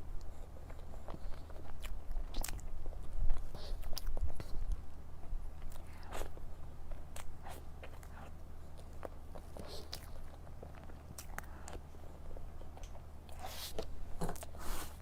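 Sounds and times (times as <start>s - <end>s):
person chewing cake: 0.0s - 15.0s
steady low hum: 0.0s - 15.0s.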